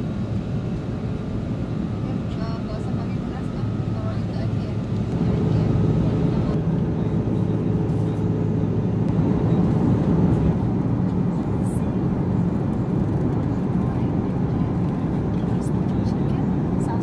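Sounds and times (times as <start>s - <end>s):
airliner cabin drone: 0.0s - 17.0s
low hums: 0.0s - 17.0s.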